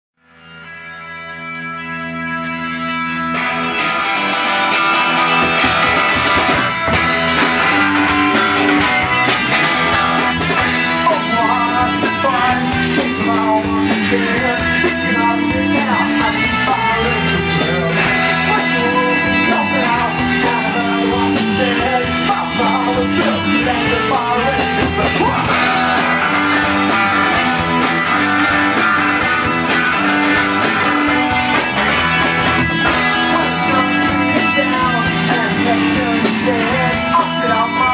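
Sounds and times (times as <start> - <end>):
rock band playing live: 0.3 - 37.9.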